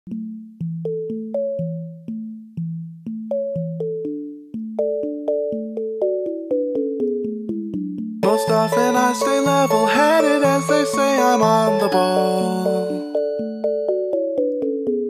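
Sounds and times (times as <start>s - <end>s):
keyboard melody: 0.1s - 15.0s.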